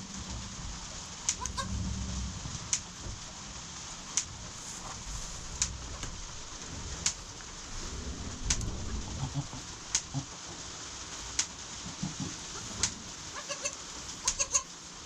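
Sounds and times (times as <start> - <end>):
soft low animal sounds: 0.0 - 15.0.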